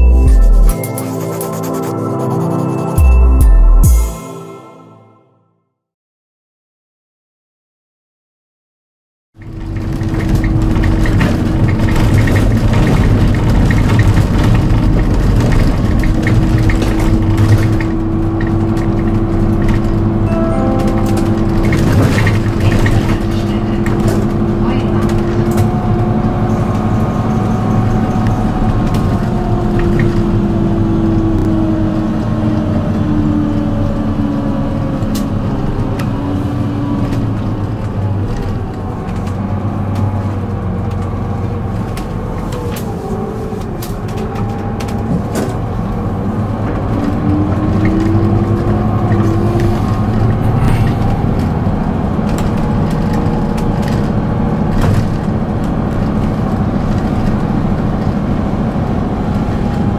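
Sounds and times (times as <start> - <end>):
bus engine drone and whine: 0.0 - 4.0, 9.4 - 59.9
bus body rattles and clicks: 9.4 - 59.9.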